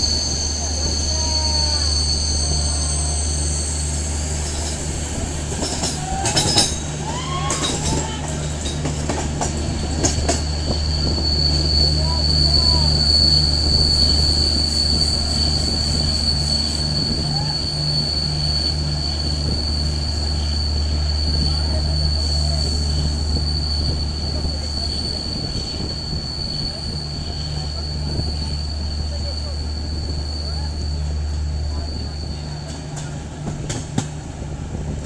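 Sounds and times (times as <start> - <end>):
high wheel squeal: 0.0 - 33.6
train rumbling on rails: 0.0 - 35.0.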